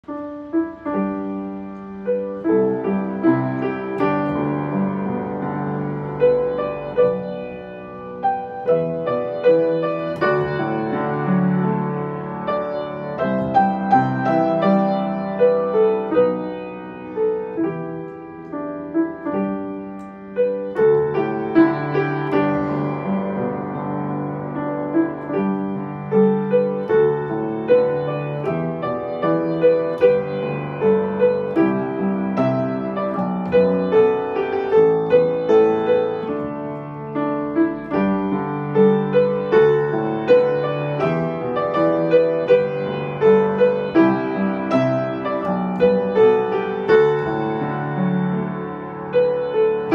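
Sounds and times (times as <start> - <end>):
upright piano ballad: 0.0 - 49.9.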